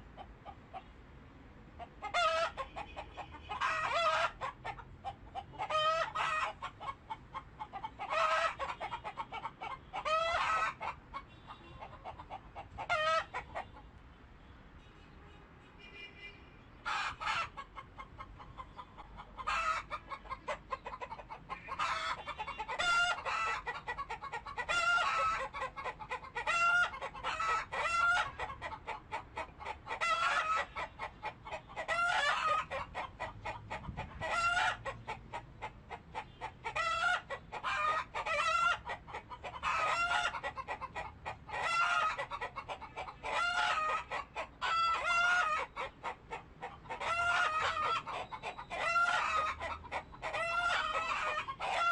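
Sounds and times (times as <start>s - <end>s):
chickens clucking and calling: 0.0s - 1.0s, 1.7s - 14.0s, 16.8s - 51.9s.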